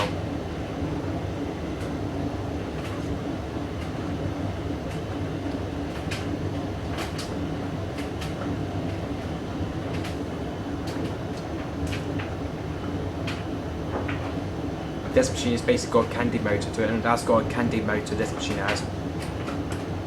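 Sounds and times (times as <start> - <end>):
washing machine hum and rumble: 0.0 - 20.0.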